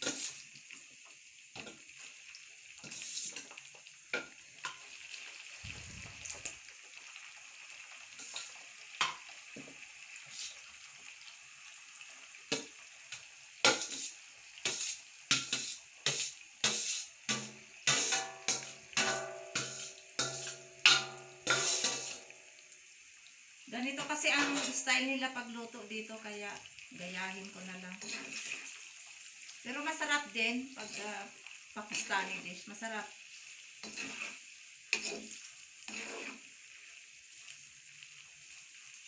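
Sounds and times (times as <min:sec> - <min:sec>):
bitter gourd sizzling in oil: 0:00.0 - 0:39.0.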